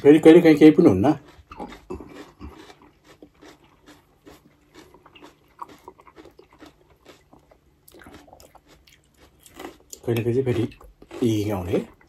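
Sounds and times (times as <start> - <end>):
chewing crunchy pepper: 0.1 - 12.0.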